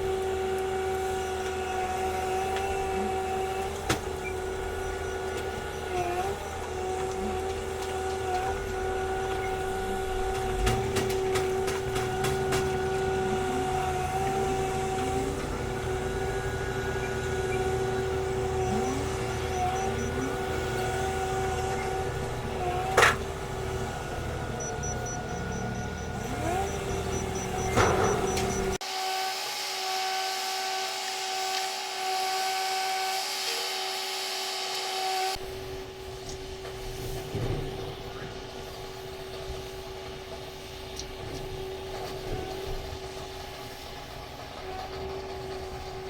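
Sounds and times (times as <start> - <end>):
wheel loader whine and rumble: 0.0 - 46.0.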